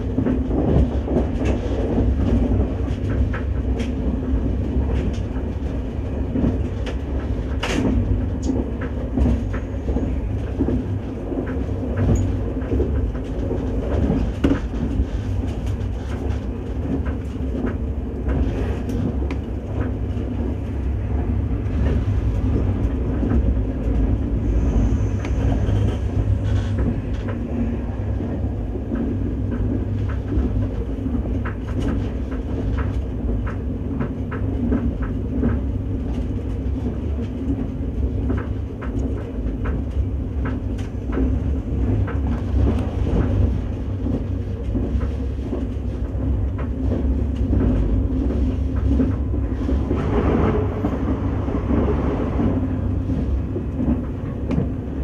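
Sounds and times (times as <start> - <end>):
train rumble inside car: 0.0 - 55.0.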